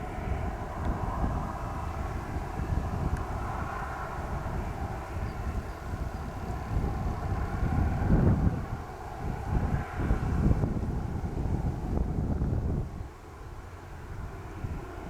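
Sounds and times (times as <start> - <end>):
airliner engine rumble: 0.0 - 15.0
wind buffeting microphone: 0.0 - 15.0.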